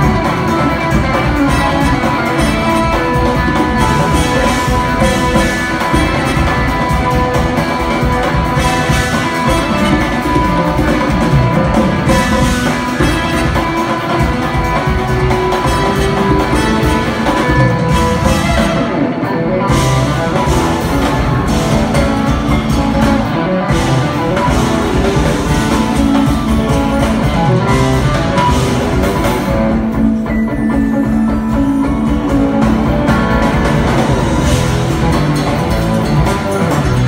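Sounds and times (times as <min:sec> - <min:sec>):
drum kit: 0:00.0 - 0:37.0
electric guitars: 0:00.0 - 0:37.0
keyboards: 0:00.0 - 0:37.0.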